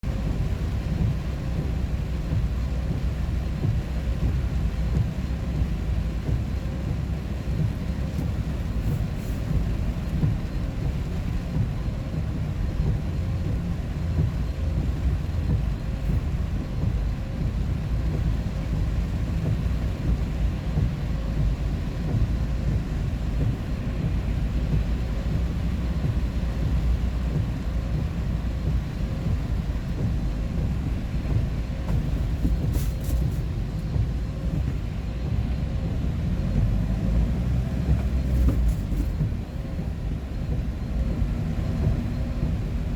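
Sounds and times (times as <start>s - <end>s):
vehicle engine and road rumble: 0.0s - 42.9s.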